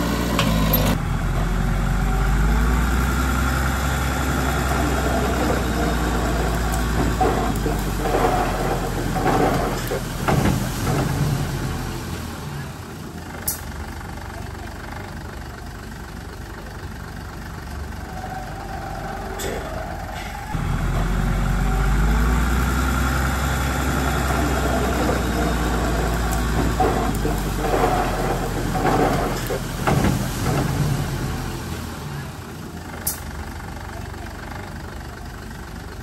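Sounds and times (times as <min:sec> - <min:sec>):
diesel engine of heavy equipment: 0:00.0 - 0:36.0.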